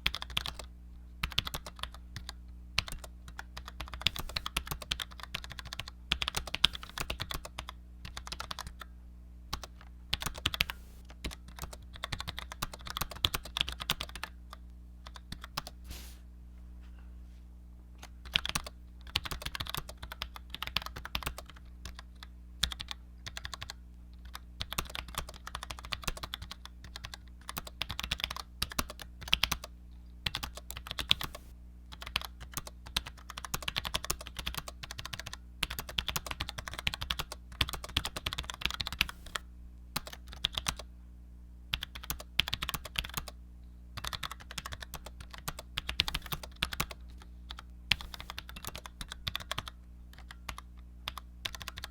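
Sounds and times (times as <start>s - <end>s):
keyboard typing clicks: 0.0s - 8.9s, 9.5s - 14.4s, 18.0s - 39.4s, 41.7s - 43.4s, 44.0s - 51.9s
faint low hum: 0.0s - 51.9s.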